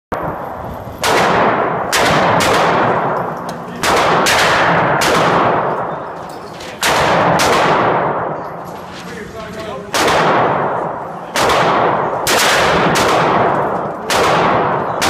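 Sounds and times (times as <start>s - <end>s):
rifle shots echoing indoors: 0.2s - 9.1s, 9.8s - 15.0s.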